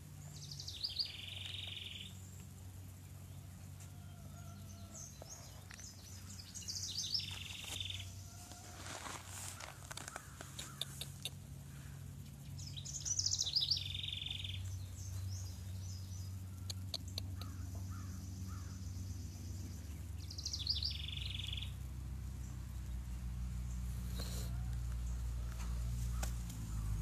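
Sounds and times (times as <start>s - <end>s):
low hum: 0.0s - 27.0s
songbird singing: 0.0s - 27.0s.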